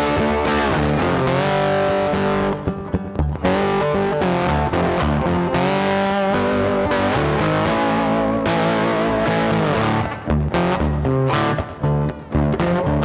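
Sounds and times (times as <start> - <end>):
guitar background music: 0.0 - 13.0.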